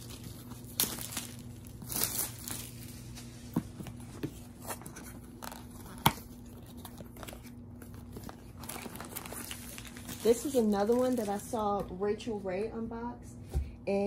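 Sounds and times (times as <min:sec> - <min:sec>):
packaging rustling and tearing: 0:00.0 - 0:11.6.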